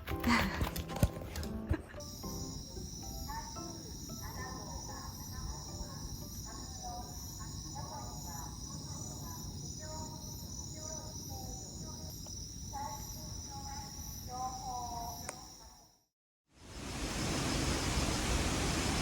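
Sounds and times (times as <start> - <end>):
crickets trilling: 0.2 - 16.0.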